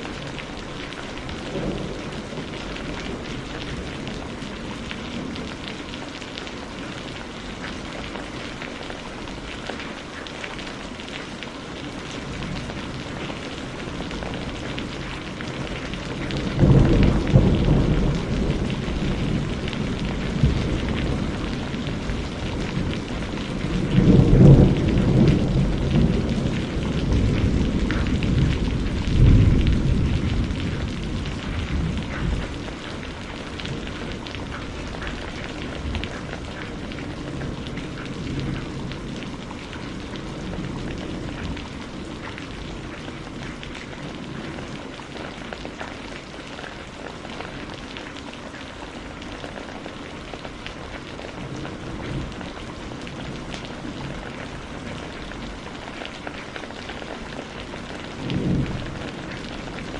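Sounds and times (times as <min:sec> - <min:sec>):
thunder rumbling: 0:00.0 - 0:09.9, 0:12.0 - 0:46.0, 0:49.3 - 0:59.9
rain falling: 0:00.0 - 0:59.9.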